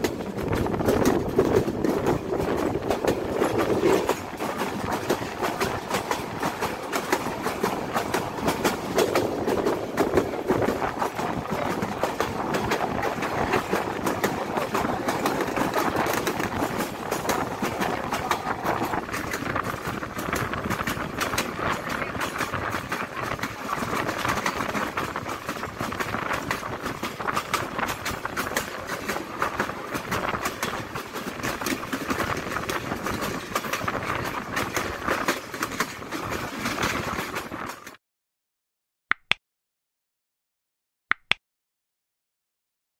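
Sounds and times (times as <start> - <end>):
train rushing noise: 0.0 - 38.0
wheels clattering over rails: 0.0 - 38.0.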